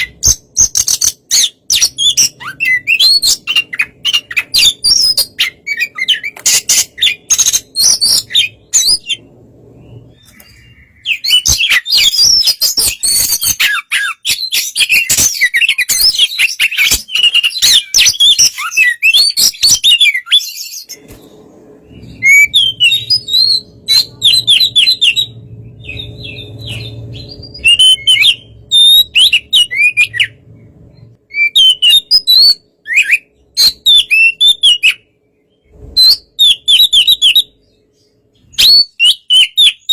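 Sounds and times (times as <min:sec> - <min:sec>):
songbird whistling and chattering: 0:00.0 - 0:21.0, 0:21.9 - 0:30.4, 0:31.3 - 0:35.1, 0:36.0 - 0:37.6, 0:38.4 - 0:39.9.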